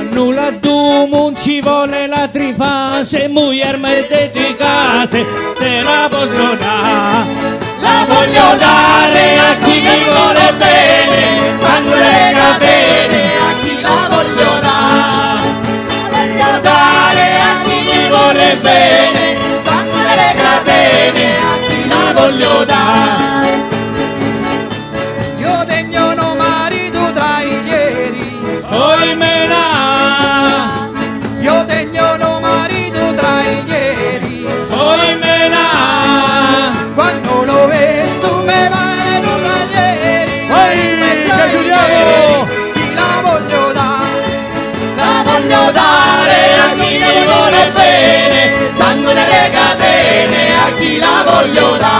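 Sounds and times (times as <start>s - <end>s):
accordion: 0.0s - 51.9s
acoustic guitar: 0.0s - 51.9s
mandolin: 3.6s - 51.9s.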